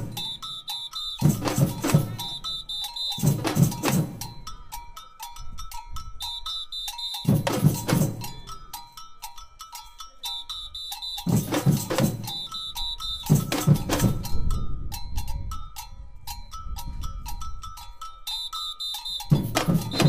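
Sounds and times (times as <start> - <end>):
ringing metal bell strokes: 0.0 - 20.0.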